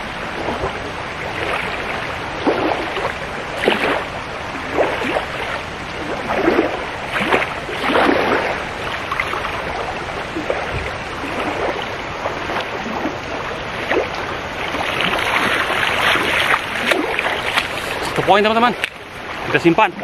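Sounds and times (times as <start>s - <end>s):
river water rushing: 0.0s - 20.0s
net splashing through water: 0.3s - 19.5s.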